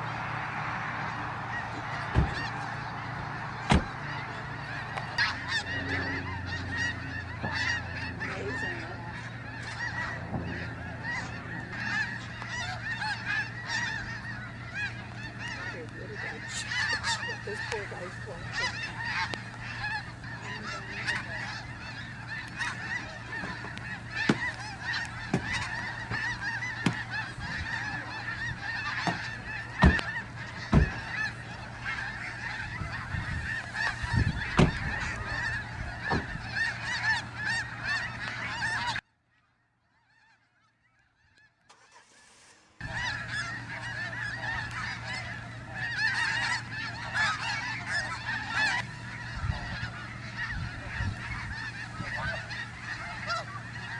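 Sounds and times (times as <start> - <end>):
geese honking: 0.0 - 53.9.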